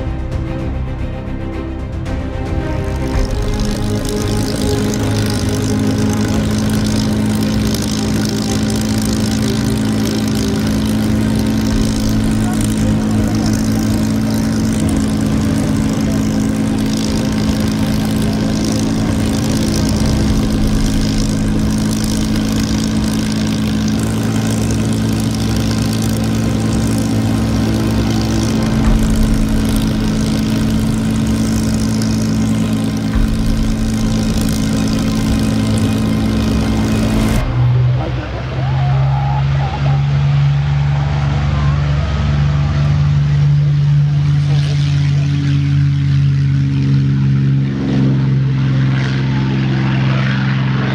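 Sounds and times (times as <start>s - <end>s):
propeller aircraft engine idling: 0.0s - 50.9s.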